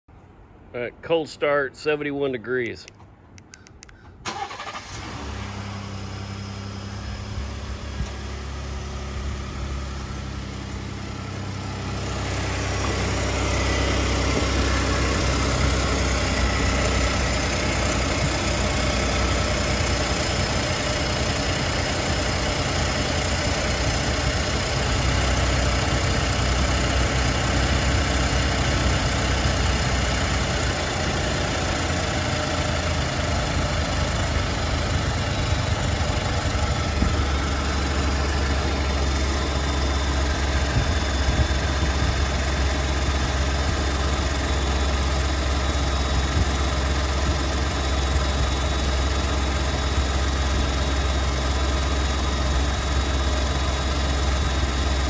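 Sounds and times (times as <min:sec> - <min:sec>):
car engine idling: 0:02.8 - 0:55.0
engine rattle: 0:04.0 - 0:55.0.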